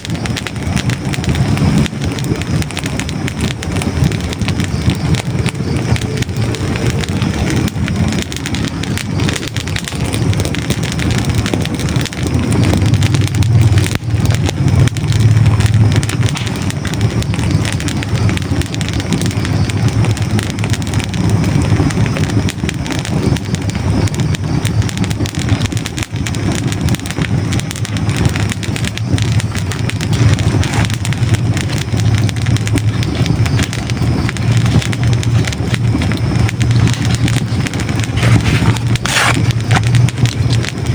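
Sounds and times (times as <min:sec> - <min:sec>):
fire crackling and popping: 0:00.0 - 0:40.9
low fire rumble: 0:00.0 - 0:40.9.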